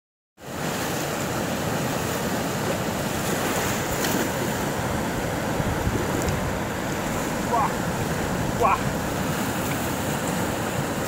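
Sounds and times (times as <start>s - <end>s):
river rushing over rocks: 0.4s - 11.0s.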